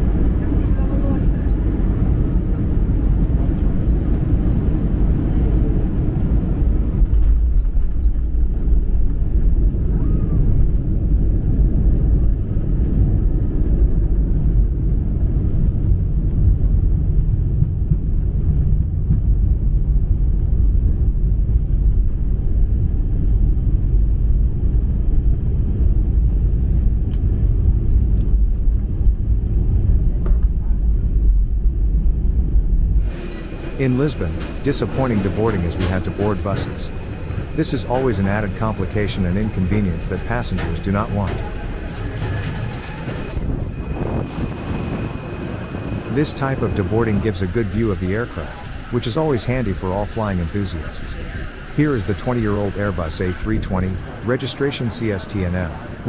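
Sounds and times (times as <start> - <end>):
airplane engines and wheels rumbling: 0.0 - 56.0.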